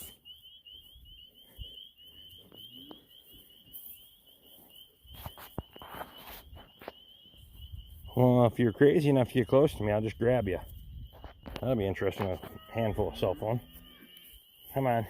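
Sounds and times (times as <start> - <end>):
high-pitched pulsing chirping chorus: 0.0 - 15.0.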